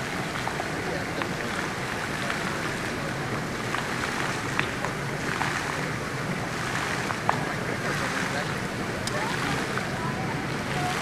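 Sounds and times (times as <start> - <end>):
fountain water splashing on stone: 0.0 - 11.0.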